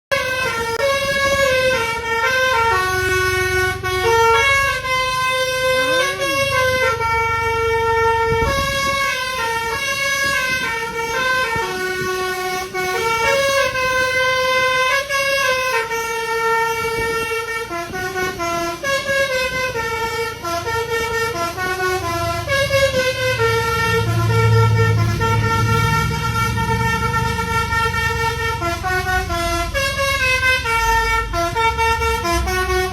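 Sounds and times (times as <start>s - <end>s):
musical bus air horn: 0.1s - 32.9s.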